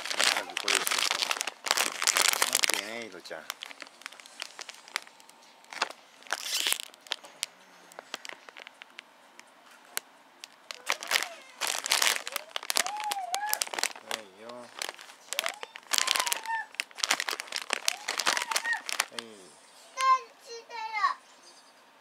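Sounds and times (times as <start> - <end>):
plastic bags crinkling: 0.0 - 9.1, 9.8 - 19.4.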